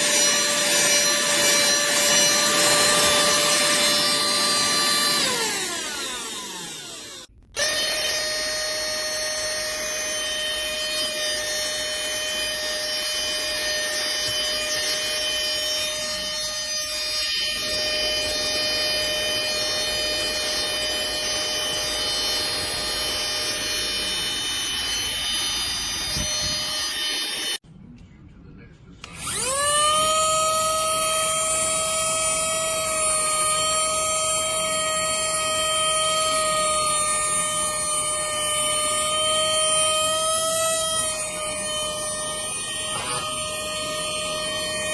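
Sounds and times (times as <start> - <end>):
mini vacuum motor whining: 0.0 - 27.6, 29.0 - 44.9.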